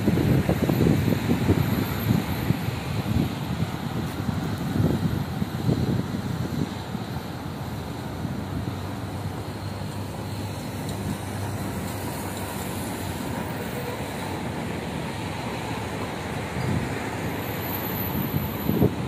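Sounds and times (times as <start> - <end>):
city road traffic rumble: 0.0 - 19.0.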